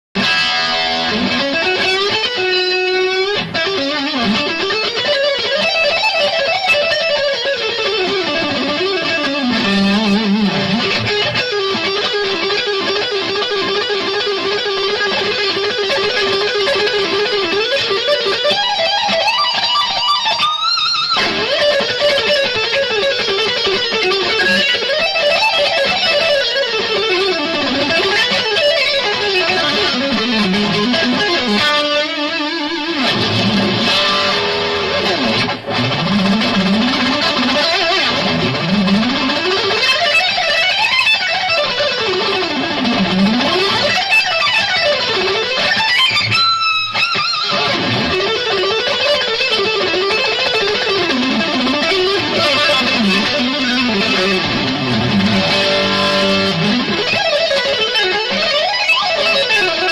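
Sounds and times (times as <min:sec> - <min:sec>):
electric guitar solo: 0:00.2 - 0:59.9.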